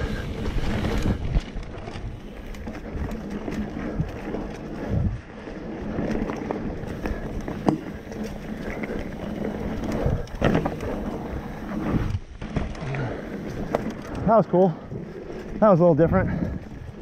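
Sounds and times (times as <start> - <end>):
wind buffeting microphone: 0.0 - 12.3, 13.2 - 17.0
bike tyres rumbling on dirt: 0.0 - 17.0.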